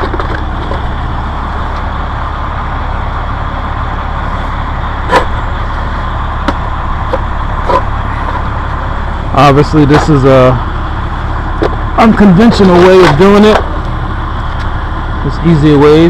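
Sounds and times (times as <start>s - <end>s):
heavy machinery engine rumble: 0.0s - 16.0s.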